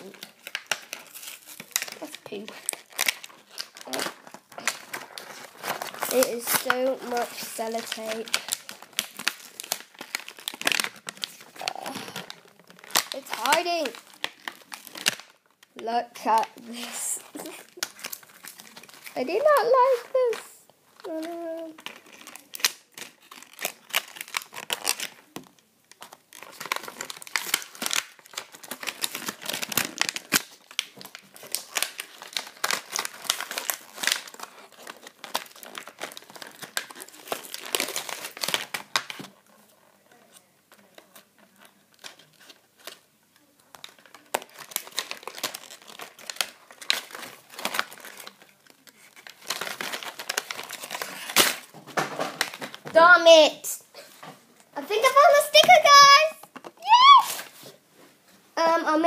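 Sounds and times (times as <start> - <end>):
plastic packaging crinkling and tearing: 0.0 - 57.8.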